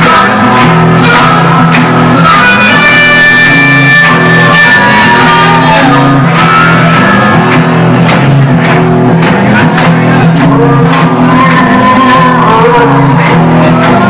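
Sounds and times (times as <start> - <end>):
harmonica long high notes: 0.0 - 8.0, 10.4 - 14.0
blues-rock band playing: 0.0 - 14.0.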